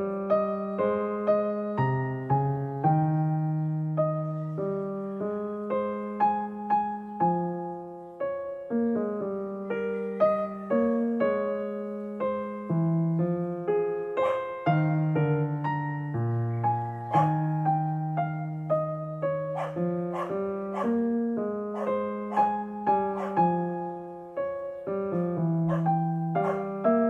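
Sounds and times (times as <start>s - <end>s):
gentle keyboard melody: 0.0s - 27.0s.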